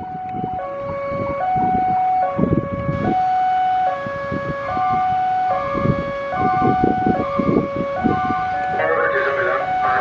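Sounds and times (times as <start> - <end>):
two-tone level crossing siren: 0.0 - 10.0.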